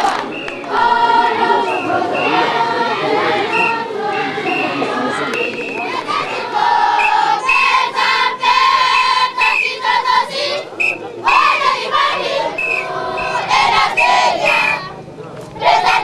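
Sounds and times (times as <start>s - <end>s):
children singing: 0.0s - 15.0s, 15.6s - 16.0s.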